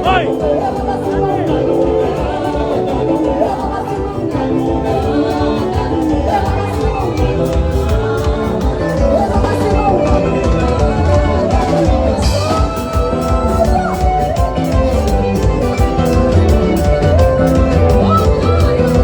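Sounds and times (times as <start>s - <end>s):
drums: 0.0s - 19.0s
live band music: 0.0s - 19.0s
person singing: 0.0s - 19.0s.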